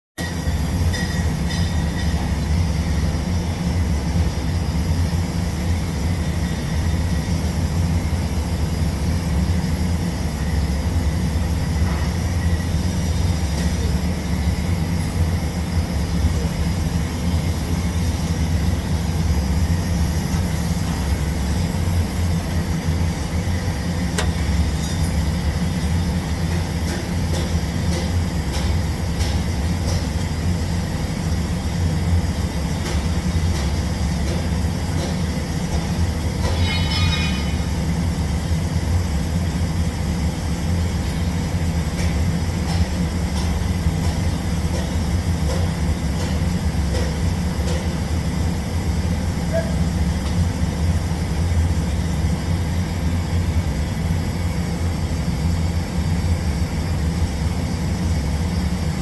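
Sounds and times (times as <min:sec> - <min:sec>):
welding arc hum and hiss: 0:00.2 - 0:59.0.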